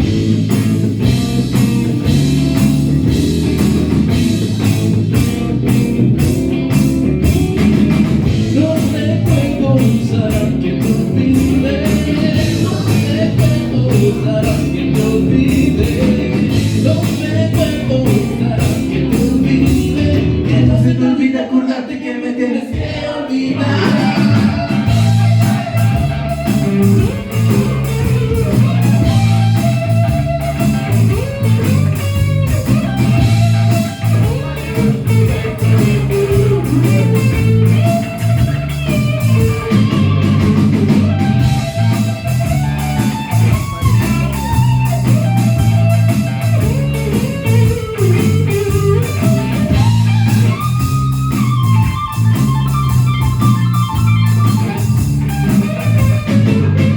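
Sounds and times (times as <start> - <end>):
drum beat: 0.0 - 20.8, 22.7 - 56.9
electric guitar: 0.0 - 21.5, 22.7 - 56.9
bass guitar: 0.0 - 21.8, 22.6 - 56.9.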